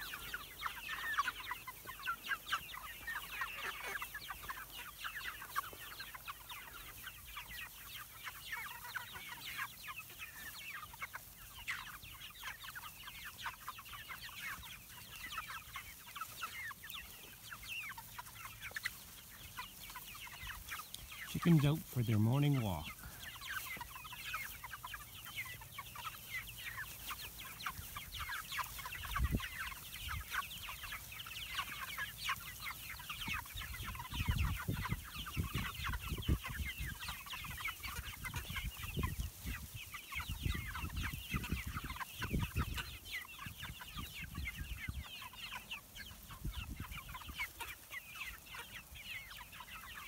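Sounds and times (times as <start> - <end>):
hens clucking: 0.0 - 50.0.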